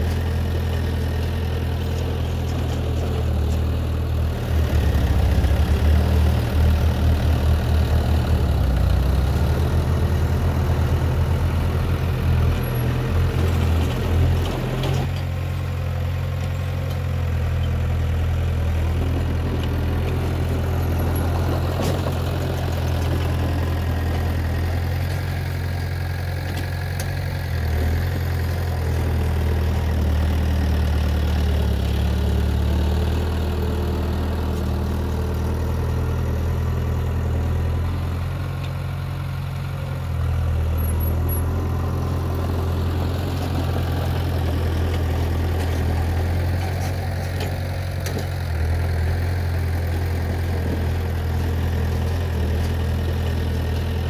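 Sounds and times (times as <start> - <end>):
construction machine diesel engine: 0.0 - 54.0.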